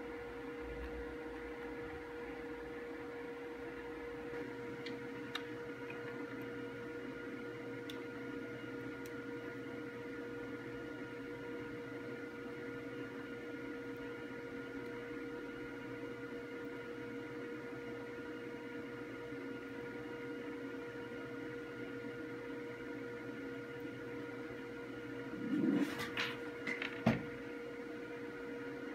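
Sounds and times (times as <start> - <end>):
electrical hum: 0.0 - 28.9.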